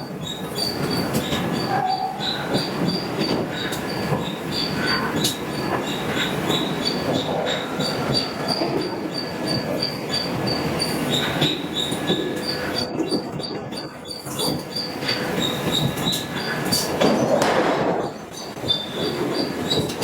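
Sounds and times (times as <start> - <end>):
workshop clatter: 0.0 - 20.0.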